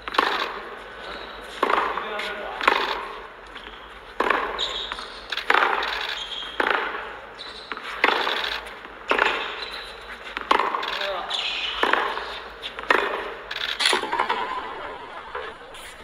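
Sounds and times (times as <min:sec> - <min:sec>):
tennis ball hit by rackets: 0:00.0 - 0:00.7, 0:01.5 - 0:07.1, 0:07.7 - 0:16.0
ball bouncing on hard court: 0:00.0 - 0:14.4.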